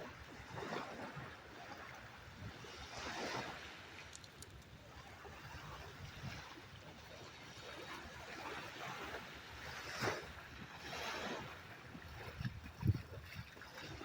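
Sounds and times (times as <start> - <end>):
moving water: 0.0 - 14.0
wind on microphone: 0.0 - 14.0.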